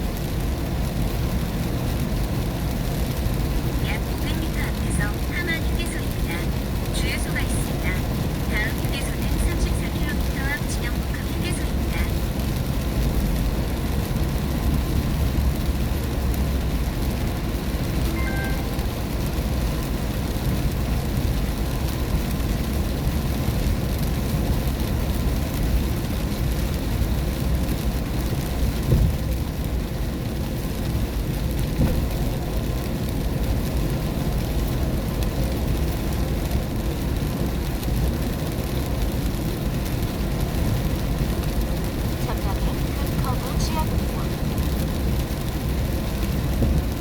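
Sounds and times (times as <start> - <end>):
rain and spray hiss: 0.0 - 47.0
road and tyre noise: 0.0 - 47.0.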